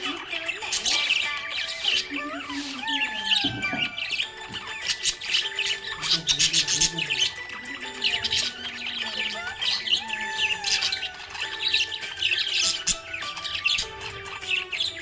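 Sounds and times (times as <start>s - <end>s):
background music with held notes: 0.0s - 15.0s
budgerigar chirping: 0.0s - 15.0s.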